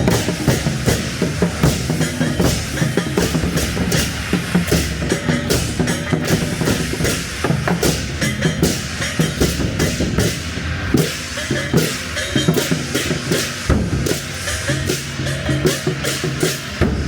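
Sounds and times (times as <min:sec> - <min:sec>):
drum-led procession music: 0:00.0 - 0:17.0.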